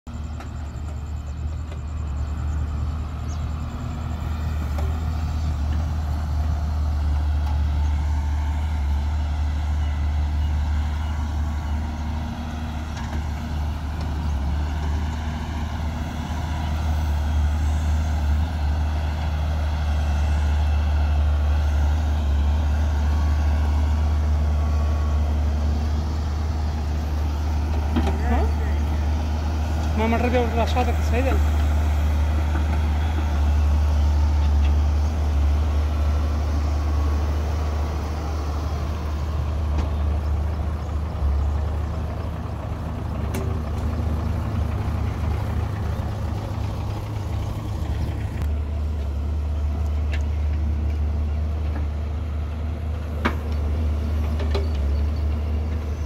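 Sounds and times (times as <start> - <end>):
diesel engines droning: 0.0 - 56.0.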